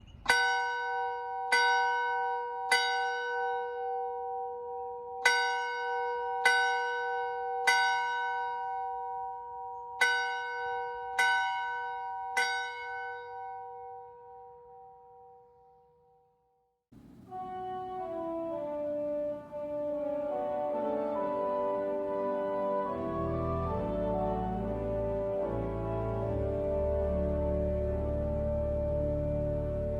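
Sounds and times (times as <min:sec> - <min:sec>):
church bell ringing: 0:00.3 - 0:14.5, 0:17.4 - 0:29.9.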